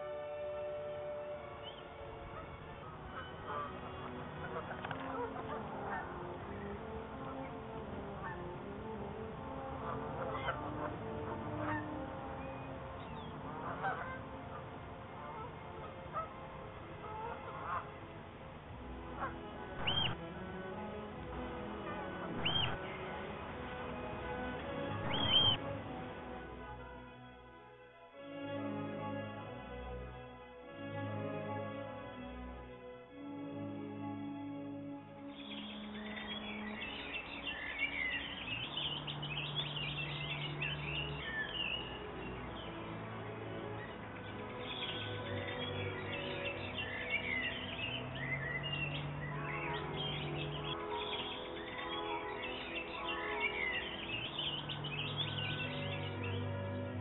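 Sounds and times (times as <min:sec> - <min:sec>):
geese honking: 0:00.0 - 0:27.2, 0:34.9 - 0:57.0
soft background music: 0:00.0 - 0:57.0
songbirds chirping: 0:00.0 - 0:57.0.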